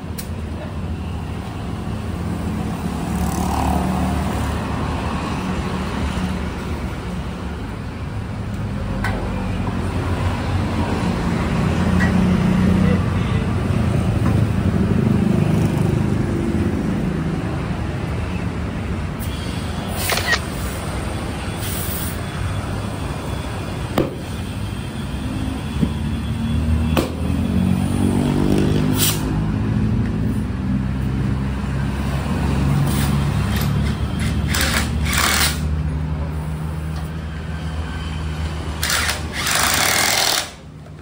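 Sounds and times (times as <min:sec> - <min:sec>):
road traffic rumbling: 0:00.0 - 0:41.0.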